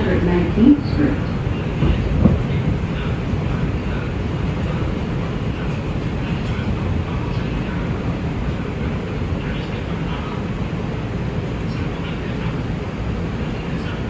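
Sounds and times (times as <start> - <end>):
subway car rumble and hum: 0.0 - 14.0.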